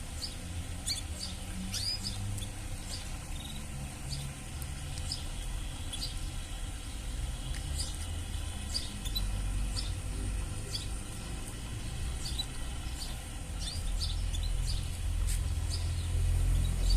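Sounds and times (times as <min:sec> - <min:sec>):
canaries chirping: 0:00.0 - 0:16.9.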